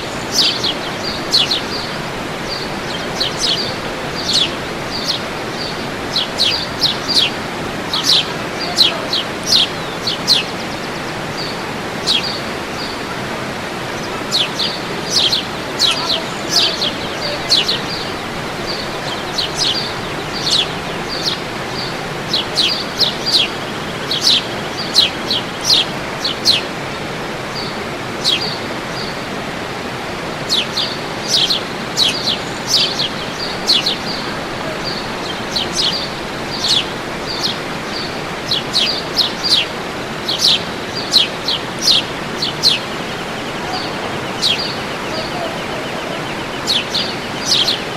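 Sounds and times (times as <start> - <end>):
birds chirping: 0.0 - 47.9
waterfall rushing: 0.0 - 47.9.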